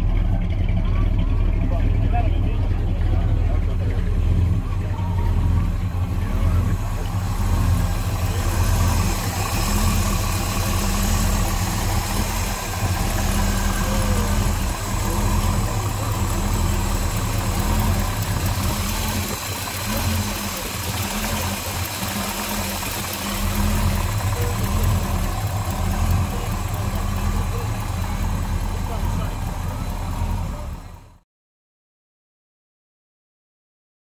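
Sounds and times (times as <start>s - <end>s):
car engine idling: 0.0s - 31.2s.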